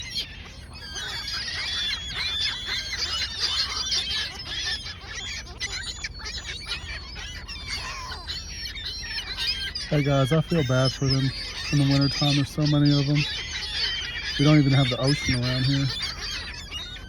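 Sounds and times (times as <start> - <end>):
gulls calling: 0.0 - 17.0.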